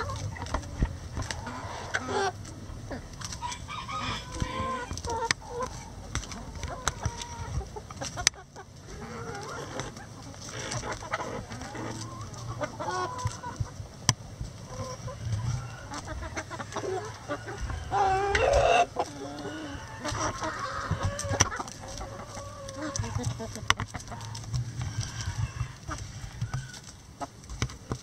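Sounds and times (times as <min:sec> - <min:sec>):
hens and rooster clucking: 0:00.0 - 0:28.0.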